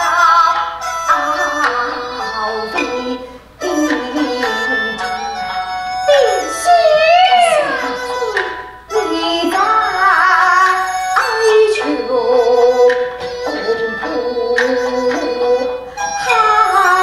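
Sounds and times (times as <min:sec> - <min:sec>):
opera accompaniment music: 0:00.0 - 0:17.0
sharp percussive strikes: 0:00.0 - 0:17.0.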